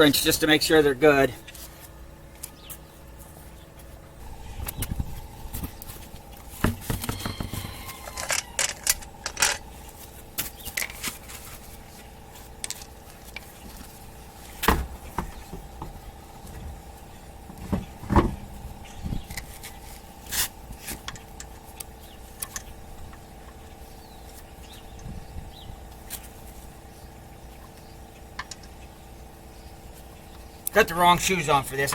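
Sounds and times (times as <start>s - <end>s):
steady hum: 0.0s - 31.9s.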